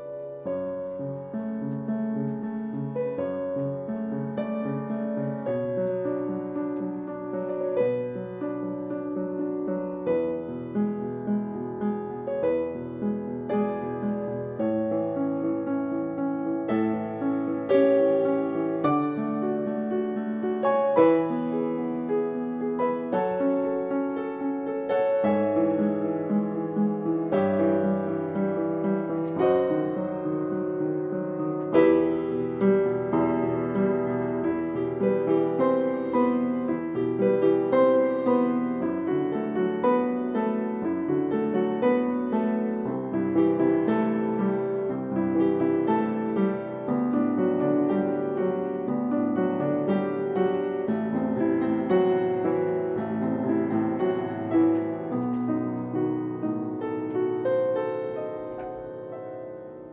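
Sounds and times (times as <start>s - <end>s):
upright piano playing: 0.0s - 59.9s.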